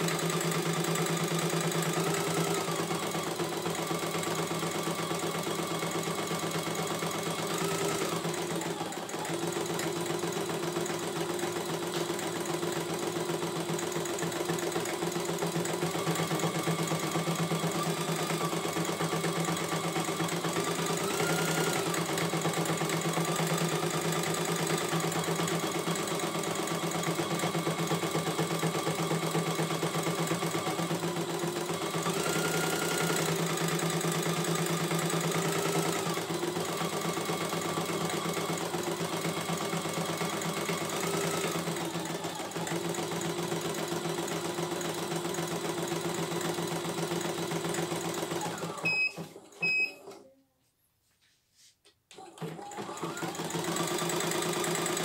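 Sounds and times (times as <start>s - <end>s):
embroidery machine stitching: 0.0s - 49.8s, 52.2s - 55.0s.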